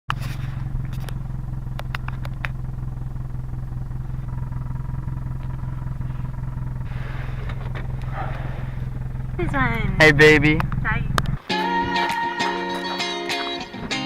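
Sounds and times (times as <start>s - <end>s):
vehicle engine humming: 0.1s - 14.0s.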